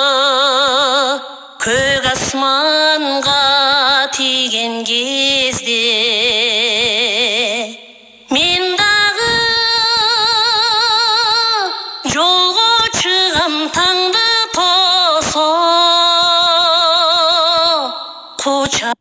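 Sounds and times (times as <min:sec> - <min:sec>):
woman singing folk song: 0:00.0 - 0:19.0.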